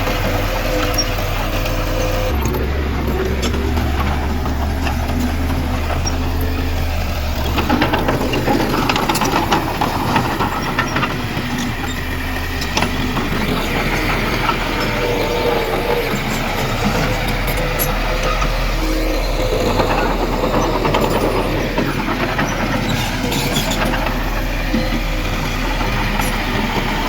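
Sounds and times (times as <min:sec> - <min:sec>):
diesel machinery droning: 0:00.0 - 0:27.0
machinery rattling and clanking: 0:00.0 - 0:27.0.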